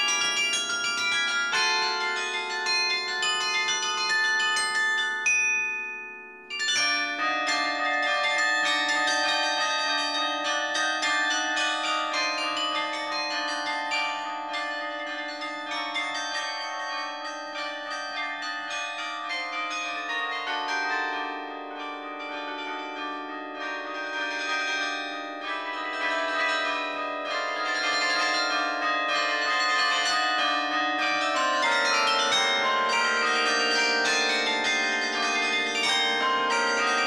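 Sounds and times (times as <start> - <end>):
carillon bells playing a melody: 0.0 - 37.0.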